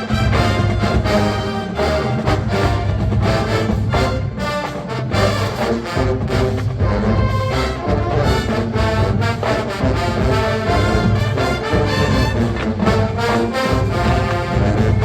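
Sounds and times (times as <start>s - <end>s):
brass playing funk: 0.0s - 15.0s
drum line beat: 0.0s - 15.0s.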